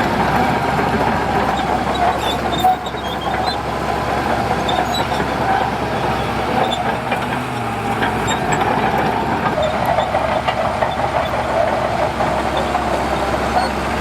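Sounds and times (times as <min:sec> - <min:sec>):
diesel engine drone: 0:00.0 - 0:14.0.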